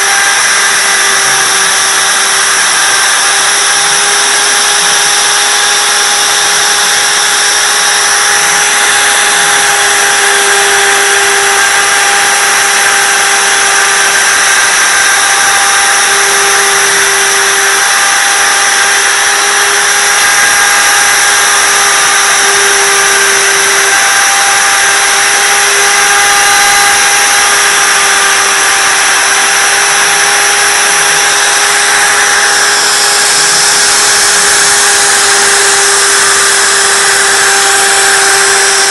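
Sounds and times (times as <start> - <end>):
router spindle high whine: 0.0 - 38.9
wood cutting hiss: 0.0 - 38.9.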